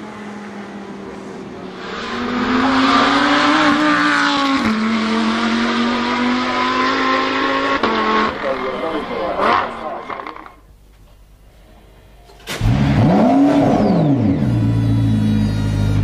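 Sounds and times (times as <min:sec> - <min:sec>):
high-revving car engine: 0:00.0 - 0:10.4, 0:12.5 - 0:16.0.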